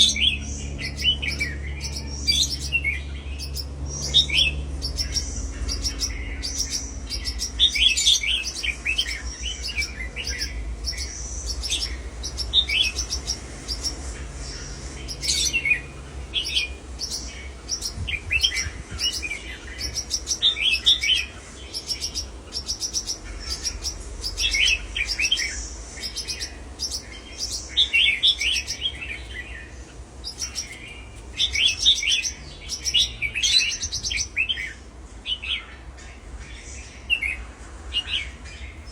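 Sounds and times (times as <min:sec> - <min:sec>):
low steady hum: 0:00.0 - 0:38.9
small birds chirping: 0:00.0 - 0:38.9.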